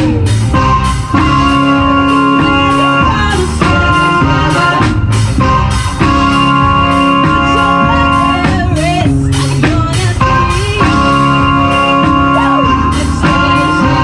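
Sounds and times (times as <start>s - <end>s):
live band playing: 0.0s - 14.0s
organ chords: 0.0s - 14.0s.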